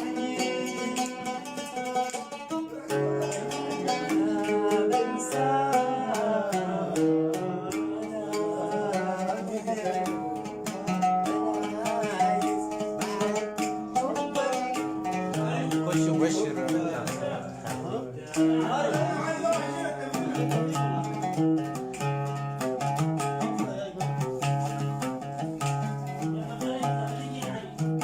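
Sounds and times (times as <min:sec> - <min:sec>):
percussion beat: 0:00.0 - 0:28.0
plucked-string melody: 0:00.0 - 0:28.0.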